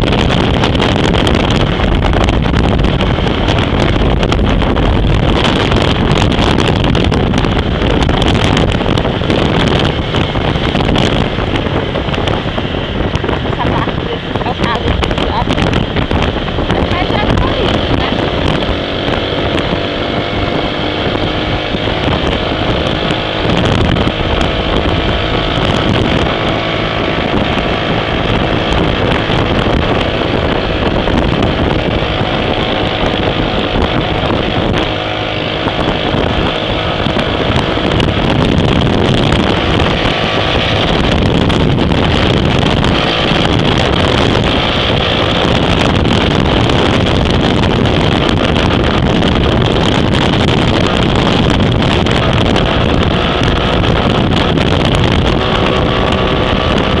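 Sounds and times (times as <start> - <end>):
motorcycle engine hum: 0.0 - 57.0
wind buffeting microphone: 0.0 - 57.0.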